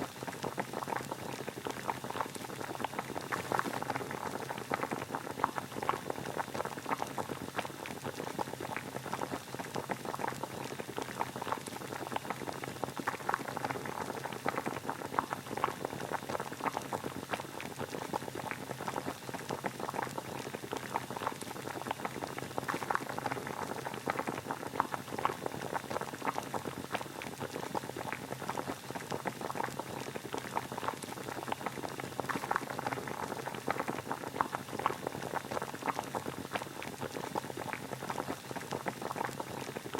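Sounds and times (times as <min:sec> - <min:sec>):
water boiling: 0:00.0 - 0:39.9.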